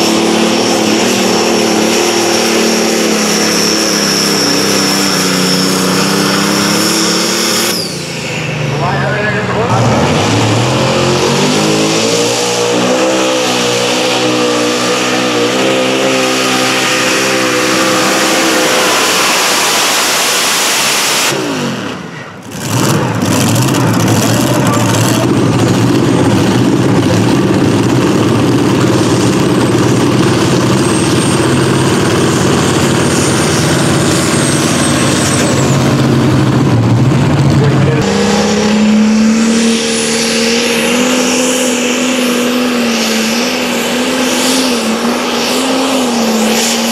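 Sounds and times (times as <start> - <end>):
engine at full throttle: 0.0 - 46.9.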